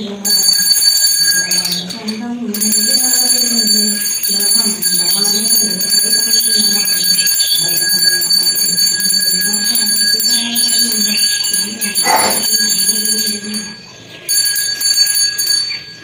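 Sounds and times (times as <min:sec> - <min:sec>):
brass hand bell ringing: 0:00.2 - 0:16.0.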